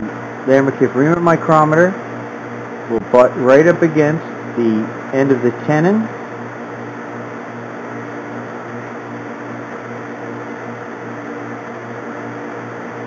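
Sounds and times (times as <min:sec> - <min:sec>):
metal lathe motor humming: 0:00.0 - 0:13.0.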